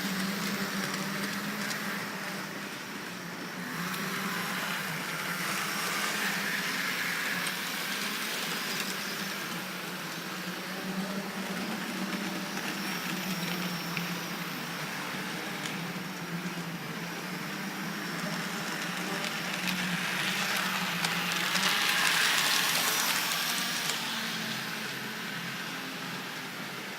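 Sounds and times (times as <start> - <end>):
model tram motor hum: 0.0 - 26.9.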